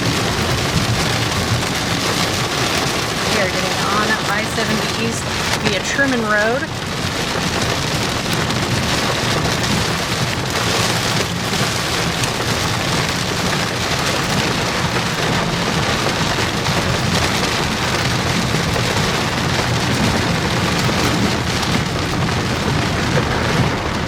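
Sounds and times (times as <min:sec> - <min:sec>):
heavy rain on vehicle roof: 0:00.0 - 0:24.0.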